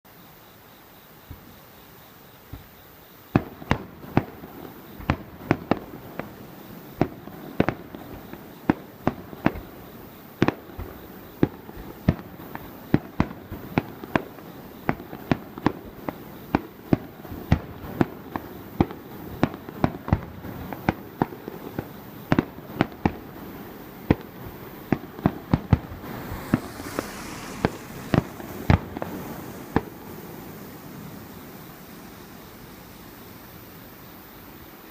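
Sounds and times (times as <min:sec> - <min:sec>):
hissing crackle: 0:00.6 - 0:34.9
fireworks bangs: 0:02.5 - 0:33.8.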